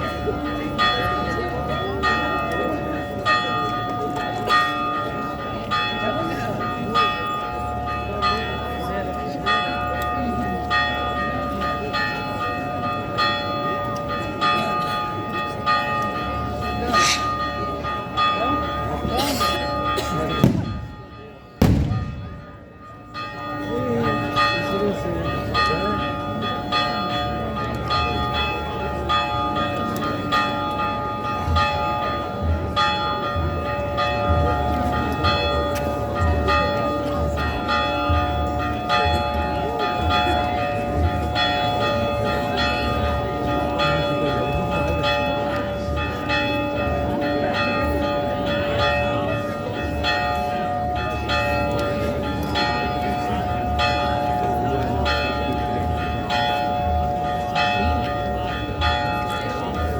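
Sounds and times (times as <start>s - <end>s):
church bell tolling: 0.0s - 59.9s.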